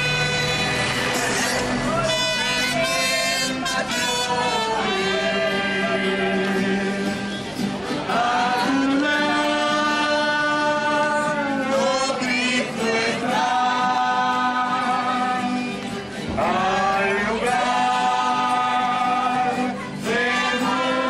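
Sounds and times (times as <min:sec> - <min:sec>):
choir singing held notes: 0:00.0 - 0:21.0.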